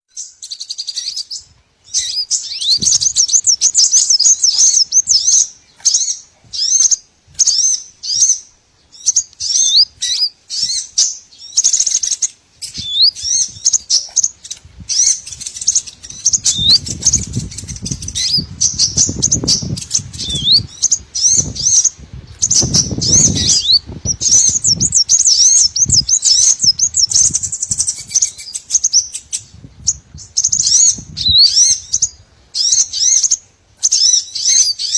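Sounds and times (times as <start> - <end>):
songbirds twittering: 0.0 - 34.9.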